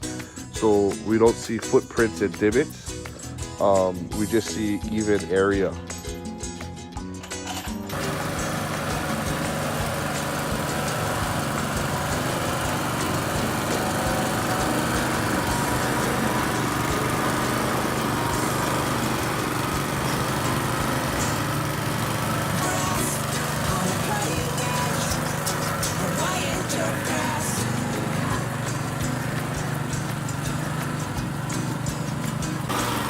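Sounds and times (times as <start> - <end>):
small engine running steadily: 0.0 - 6.8, 7.4 - 33.0.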